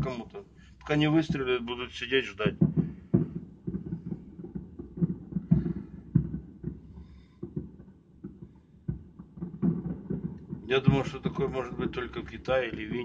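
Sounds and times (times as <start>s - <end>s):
distant muffled firework booms: 0.0s - 13.0s.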